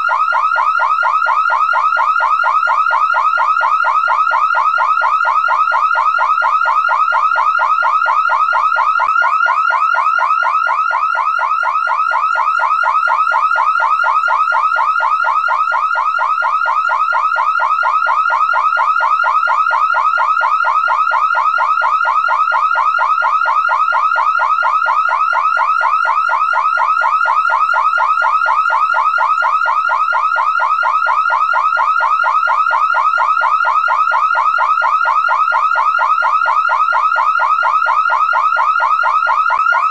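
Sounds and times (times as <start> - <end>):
car alarm siren warbling: 0.0 - 39.9.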